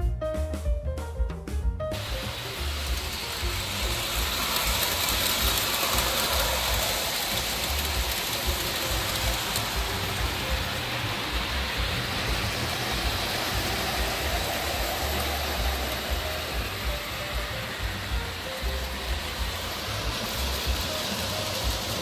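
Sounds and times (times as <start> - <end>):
toy train rumbling on metal rail: 1.9 - 22.0.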